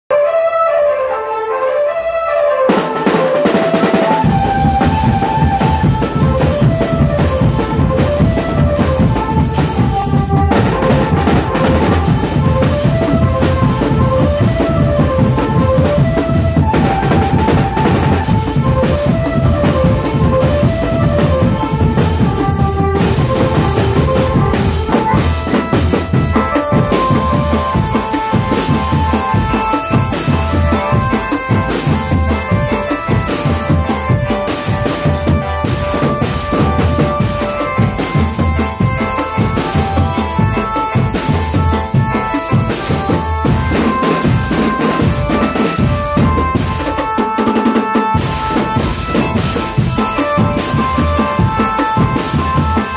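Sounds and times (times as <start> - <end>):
repeating high tune: 2.7 - 47.6
cymbals: 2.7 - 52.9
snare and tom drums: 2.7 - 52.9.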